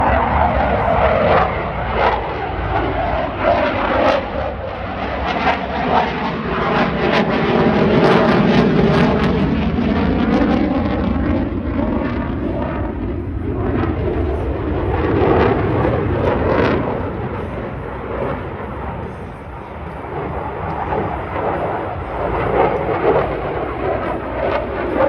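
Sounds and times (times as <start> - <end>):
jet engine roaring: 0.0 - 25.0.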